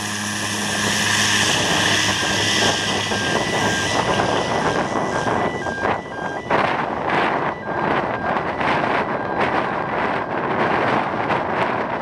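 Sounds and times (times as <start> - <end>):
turboprop aircraft engine: 0.0 - 12.0
wind buffeting microphone: 0.0 - 12.0.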